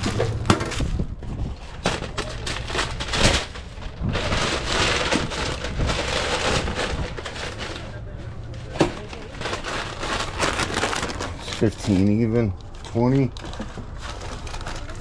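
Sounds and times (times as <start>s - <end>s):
paper crinkling and rustling: 0.0s - 15.0s.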